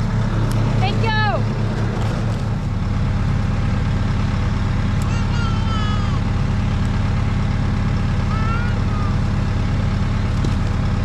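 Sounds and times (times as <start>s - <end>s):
skid steer engine running: 0.0s - 11.0s.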